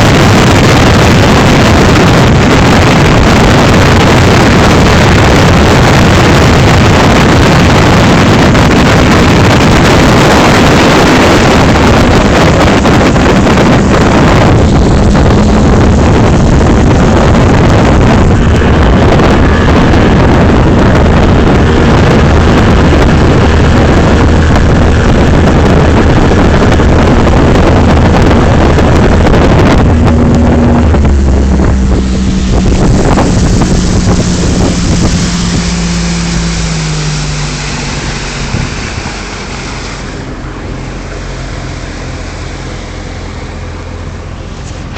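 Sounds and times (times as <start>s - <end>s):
motorboat engine: 0.0s - 44.9s
water rushing: 0.0s - 44.9s
wind on microphone: 0.0s - 44.9s.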